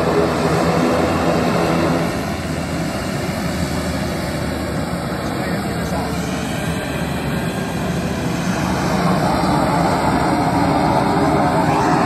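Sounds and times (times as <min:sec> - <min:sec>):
turboprop airplane engines droning: 0:00.0 - 0:12.0.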